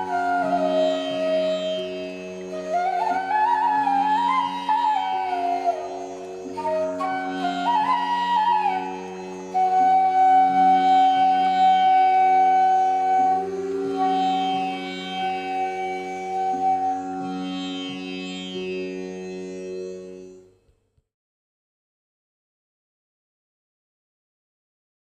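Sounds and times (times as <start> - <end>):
flute-like melody: 0.0 - 20.4.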